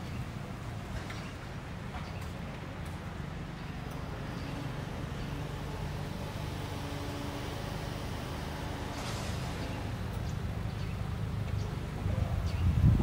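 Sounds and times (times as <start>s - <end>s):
city street hiss: 0.0s - 13.0s.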